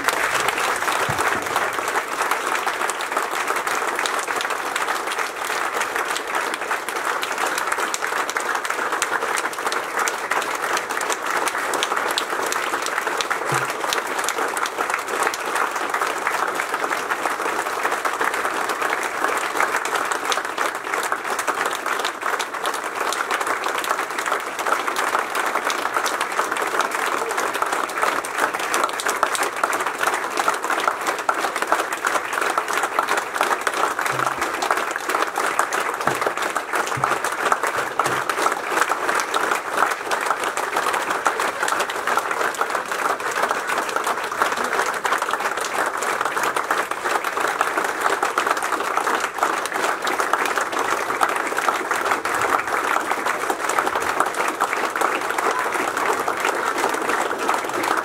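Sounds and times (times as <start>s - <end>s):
crowd applauding: 0.0s - 58.0s.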